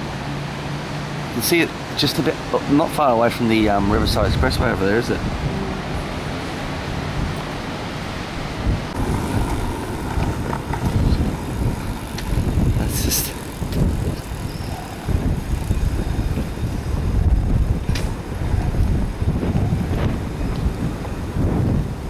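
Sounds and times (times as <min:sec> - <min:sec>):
wind buffeting microphone: 0:03.5 - 0:22.0.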